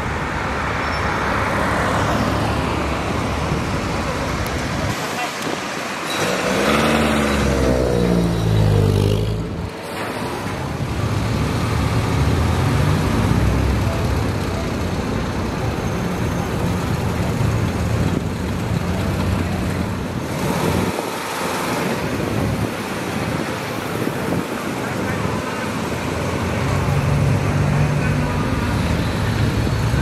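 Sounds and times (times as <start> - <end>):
car engines running: 0.0 - 30.0.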